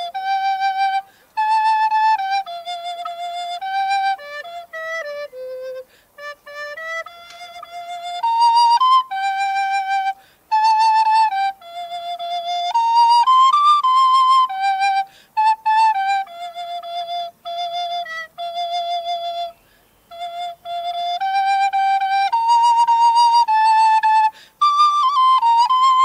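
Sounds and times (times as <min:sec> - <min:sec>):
recorder melody: 0:00.0 - 0:26.0.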